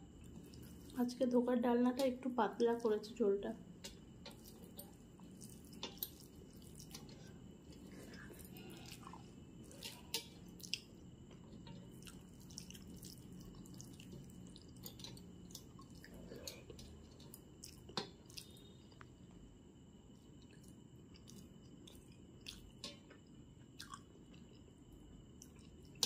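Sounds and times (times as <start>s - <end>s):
low steady hum: 0.0s - 26.0s
chewing rice: 0.2s - 1.0s, 3.9s - 19.2s, 20.1s - 26.0s.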